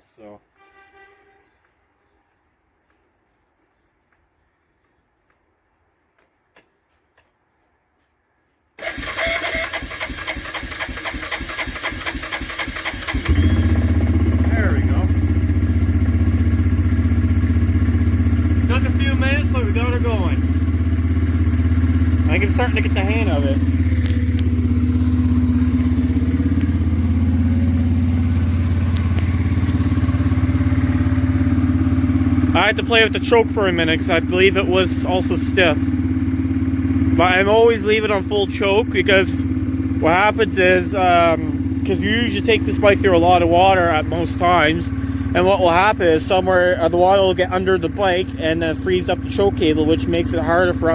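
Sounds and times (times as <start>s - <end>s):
starter cranking engine: 8.8s - 50.9s.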